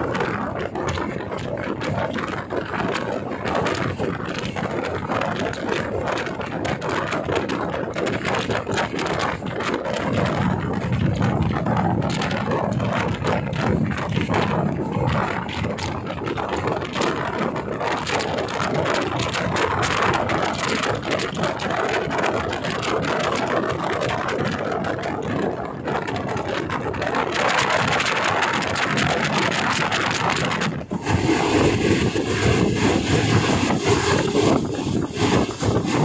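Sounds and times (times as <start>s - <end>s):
train wheels rushing on rails: 0.0s - 36.0s
wind at open door: 0.0s - 36.0s.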